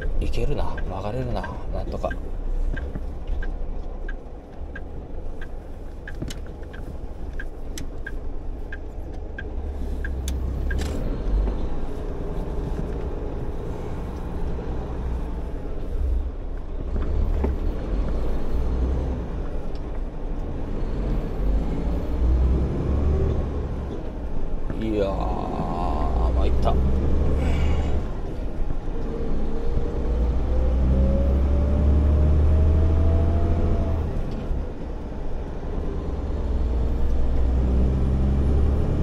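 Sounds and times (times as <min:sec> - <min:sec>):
turn signal ticking: 0:00.0 - 0:31.5
diesel engine rumbling: 0:00.0 - 0:39.0.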